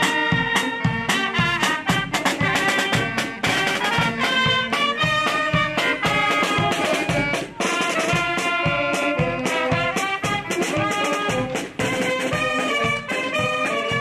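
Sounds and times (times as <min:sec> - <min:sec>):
brass and saxophones playing tune: 0:00.0 - 0:14.0
snare and bass drums beat: 0:00.0 - 0:14.0.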